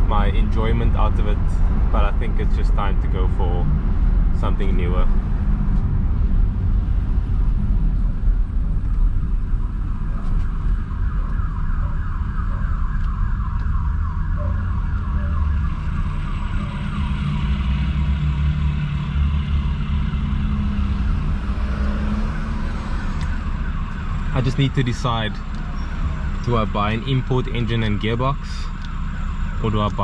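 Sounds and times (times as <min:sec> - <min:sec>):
car rumbling on the move: 0:00.0 - 0:30.0.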